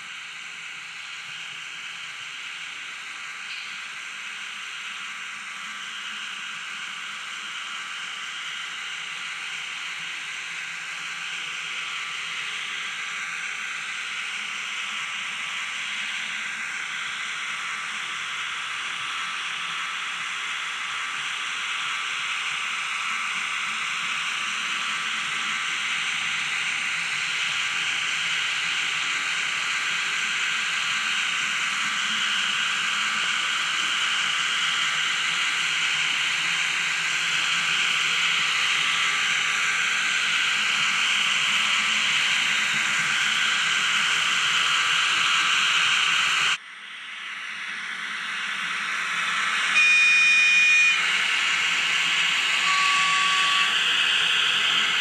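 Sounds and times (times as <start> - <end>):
model locomotive running: 0.0 - 55.0.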